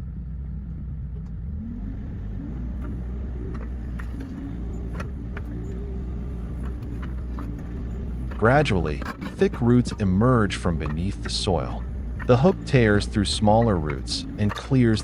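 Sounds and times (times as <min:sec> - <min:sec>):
low engine running: 0:00.0 - 0:15.0.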